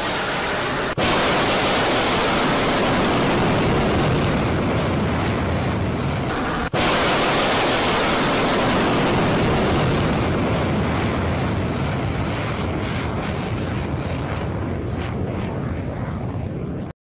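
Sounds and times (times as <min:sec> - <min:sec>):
rocket exhaust roaring: 0:00.0 - 0:16.9.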